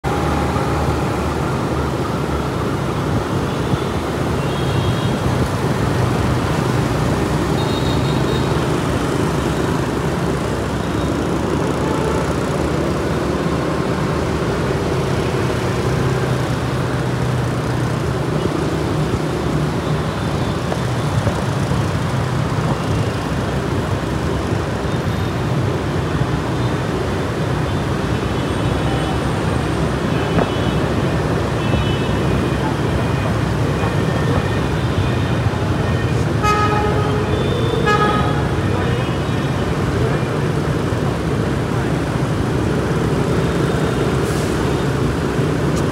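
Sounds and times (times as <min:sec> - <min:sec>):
motor scooters and cars passing: 0:00.0 - 0:45.9.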